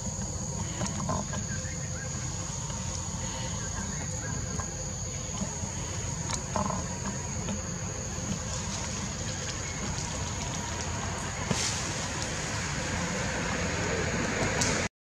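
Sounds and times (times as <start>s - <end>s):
constant rushing noise: 0.0s - 14.9s.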